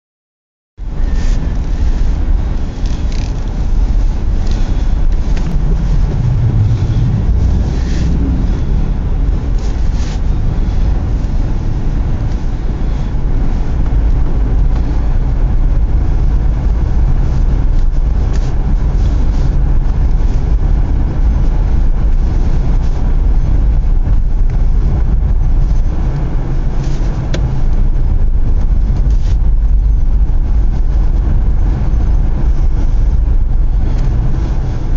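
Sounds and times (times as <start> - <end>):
vehicle engine and road noise: 0.8 - 34.9.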